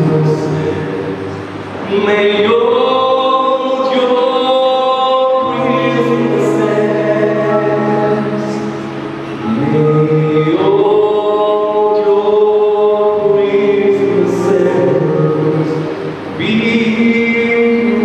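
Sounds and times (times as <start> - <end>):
mixed choir singing: 1.8 - 18.0.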